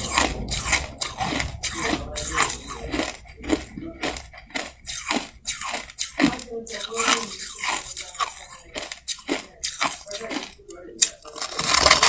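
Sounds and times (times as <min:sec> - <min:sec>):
crushed ice being chewed: 0:00.0 - 0:12.0.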